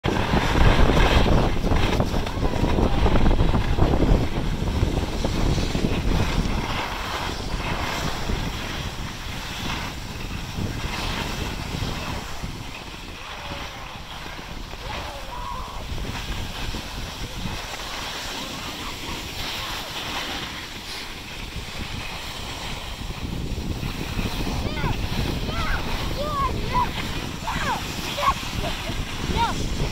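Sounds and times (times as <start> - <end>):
wind rushing over microphone: 0.0 - 29.9
skis scraping over snow: 0.1 - 29.9.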